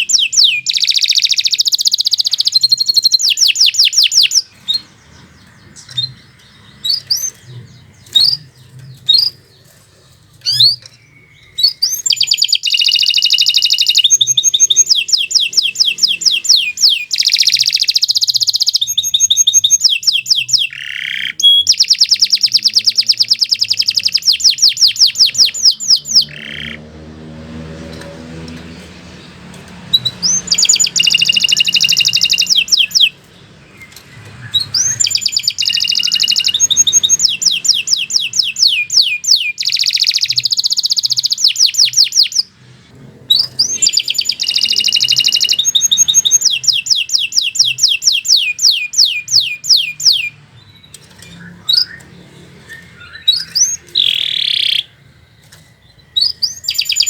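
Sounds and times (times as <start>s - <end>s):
canary chirping and trilling: 0.0s - 57.0s.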